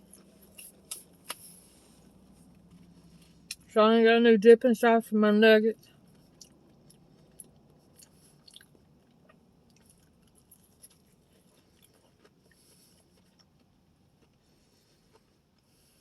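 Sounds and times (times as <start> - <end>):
person chewing crunchy food: 0.0 - 3.6, 6.0 - 16.0.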